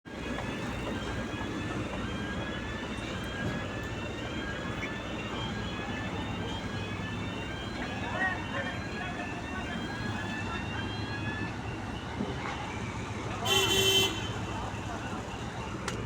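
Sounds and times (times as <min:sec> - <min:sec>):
heavy machinery rumbling: 0:00.1 - 0:13.4.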